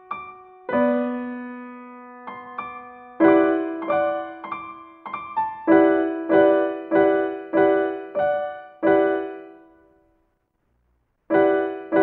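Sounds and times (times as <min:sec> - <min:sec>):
piano music: 0:00.0 - 0:10.1, 0:11.3 - 0:12.0.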